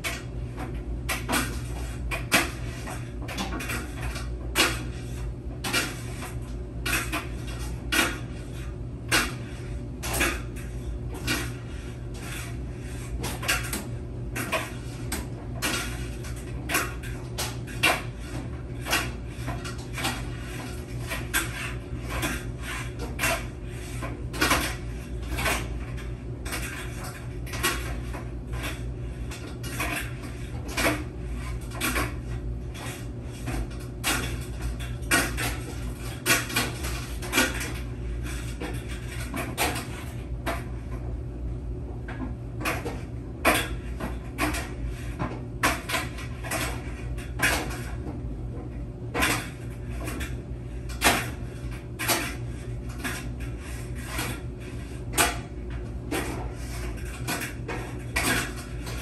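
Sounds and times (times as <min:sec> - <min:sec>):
laundry machine humming: 0:00.0 - 0:59.0.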